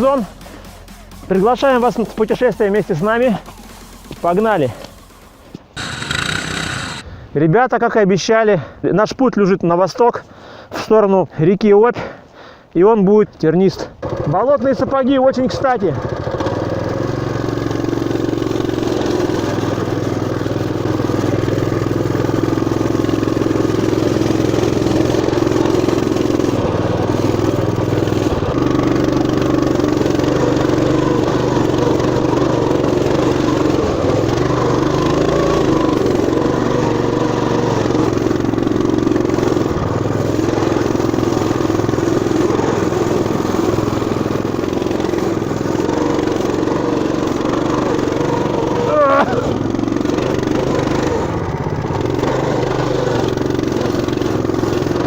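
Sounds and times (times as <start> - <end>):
small bike engine running: 0.0 - 7.1, 13.9 - 55.0.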